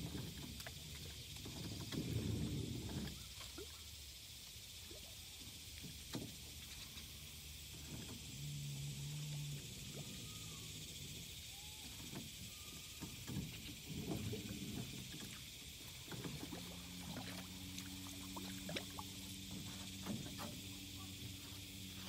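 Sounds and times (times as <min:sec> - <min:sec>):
boat motor hum: 0:00.0 - 0:22.0.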